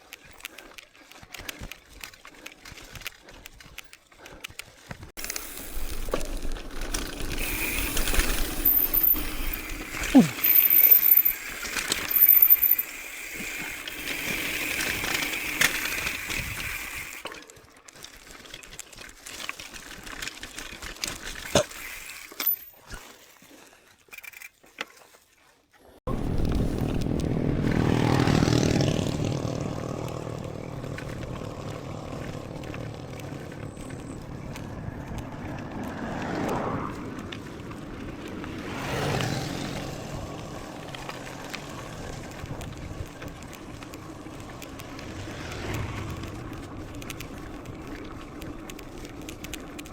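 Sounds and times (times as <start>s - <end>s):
bike tyre noise: 0.0s - 49.9s.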